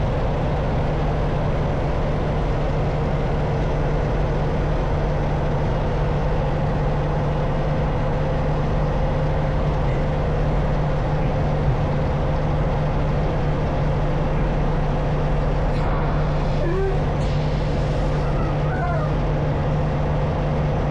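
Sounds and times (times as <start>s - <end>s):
diesel truck engine running: 0.0s - 20.9s.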